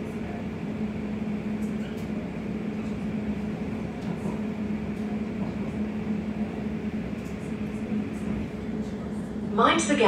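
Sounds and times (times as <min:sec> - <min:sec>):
train carriage hum and rumble: 0:00.0 - 0:10.0.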